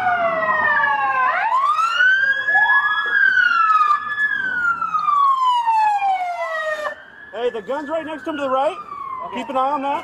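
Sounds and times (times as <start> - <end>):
emergency vehicle sirens wailing: 0.0 - 10.0.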